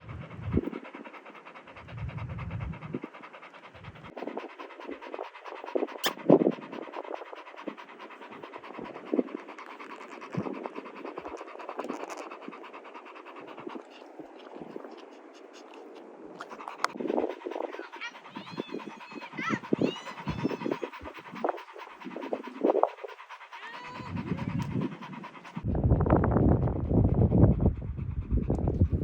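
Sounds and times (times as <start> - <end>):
dog panting: 0.0 - 29.0.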